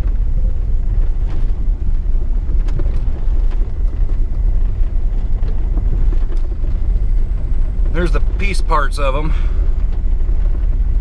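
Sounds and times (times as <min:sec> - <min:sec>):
engine and tyres rumbling on gravel: 0:00.0 - 0:11.0.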